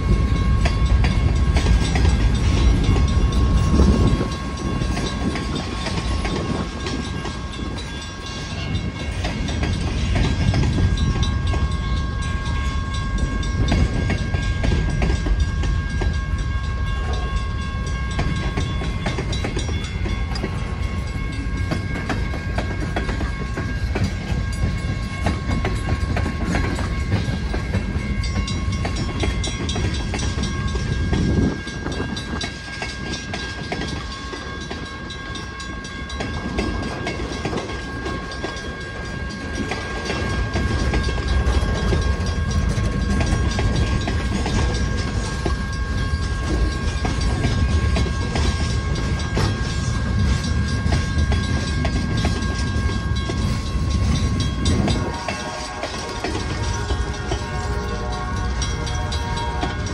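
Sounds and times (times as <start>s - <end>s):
freight train rumbling past: 0.0s - 59.9s
wheels clicking over rail joints: 0.0s - 59.9s.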